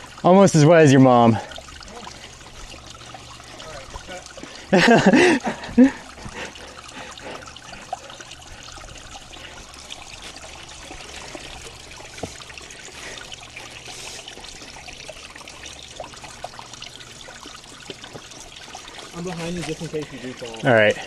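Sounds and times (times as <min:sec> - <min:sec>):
water trickling over rock: 0:00.0 - 0:21.0.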